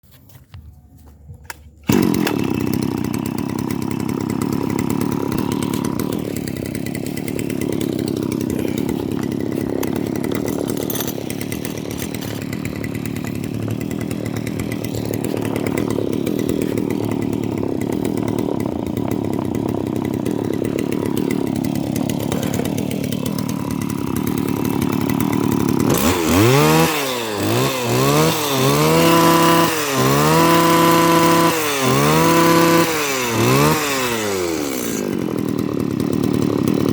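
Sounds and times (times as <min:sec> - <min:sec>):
brush cutter engine idling and revving: 0:00.2 - 0:36.9.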